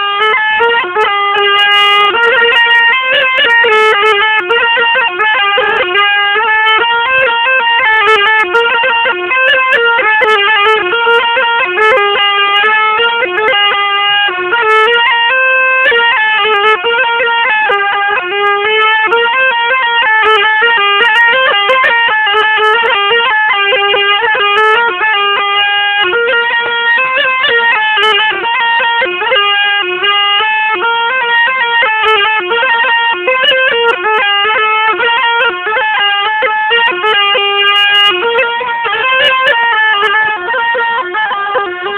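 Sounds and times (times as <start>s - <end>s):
zurna melody: 0.0s - 41.9s.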